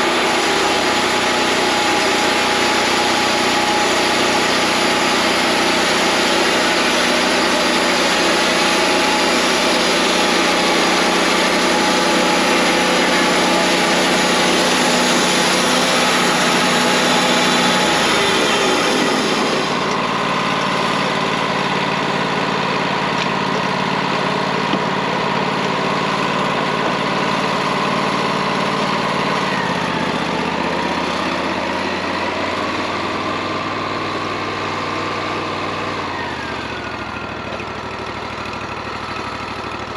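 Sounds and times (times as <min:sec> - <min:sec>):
bandsaw mill running: 0:00.0 - 0:39.9.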